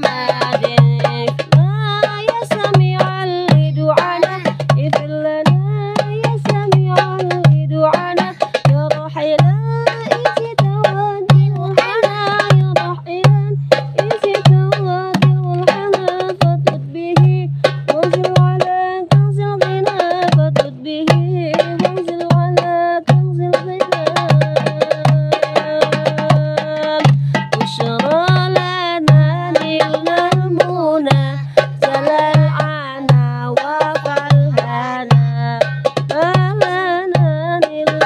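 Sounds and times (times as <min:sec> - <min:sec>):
hand drums busy rhythm: 0:00.0 - 0:38.0
person singing melody: 0:00.0 - 0:38.0.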